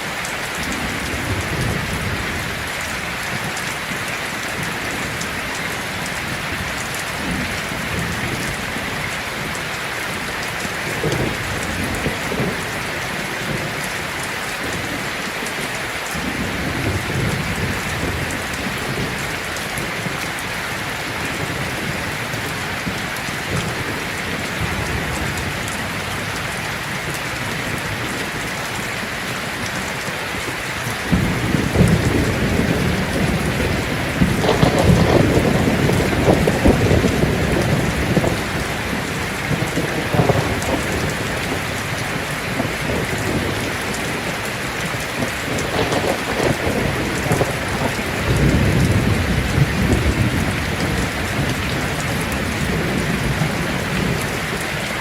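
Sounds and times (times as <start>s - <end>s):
heavy rain on a tin roof: 0.0s - 55.0s
thunder rumbling: 0.3s - 55.0s.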